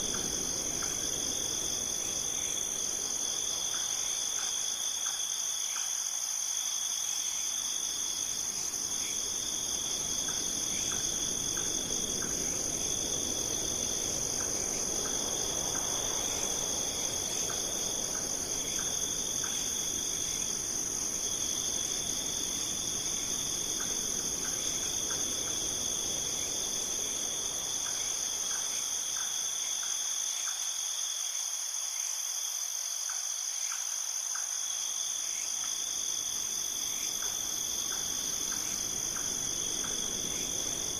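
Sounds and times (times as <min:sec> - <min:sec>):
high-pitched insect trill: 0:00.0 - 0:40.9
lower intermittent insect trill: 0:00.0 - 0:40.9.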